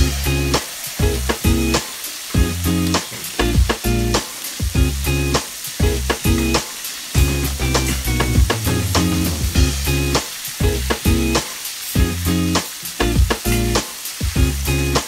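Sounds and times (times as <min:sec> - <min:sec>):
background music with bass: 0:00.0 - 0:15.0
chicken frying in oil: 0:00.0 - 0:15.0.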